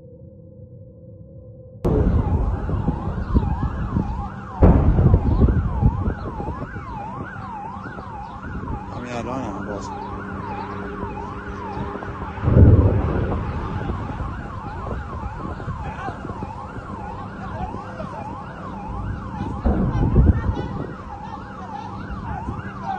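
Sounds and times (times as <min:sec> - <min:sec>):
heavy low rumbles: 0:01.9 - 0:21.2
siren yelping: 0:01.9 - 0:22.9.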